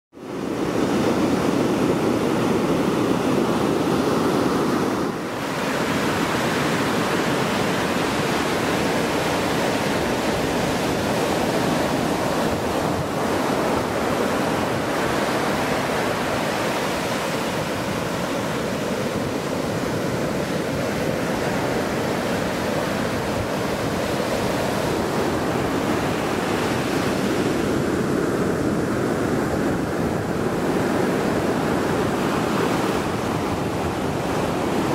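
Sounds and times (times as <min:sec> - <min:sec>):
ocean waves washing over sand: 0:00.2 - 0:34.9.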